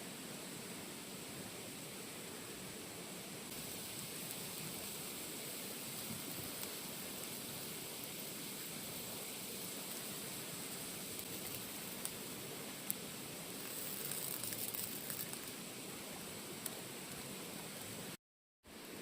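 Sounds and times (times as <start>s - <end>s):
hissing background noise: 0.0s - 19.0s.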